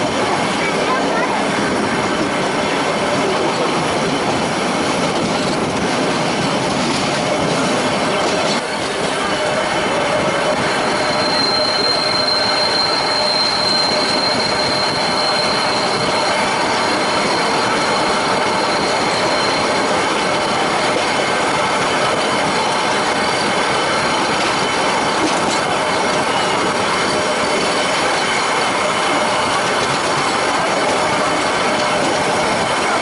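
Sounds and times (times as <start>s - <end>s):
train wheels rumbling on rails: 0.0s - 33.0s
high wheel squeal: 0.5s - 33.0s.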